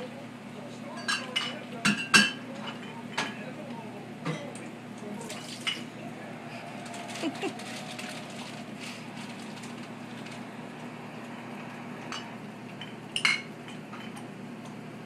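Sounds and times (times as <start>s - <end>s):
steady low hum: 2.8s - 15.0s.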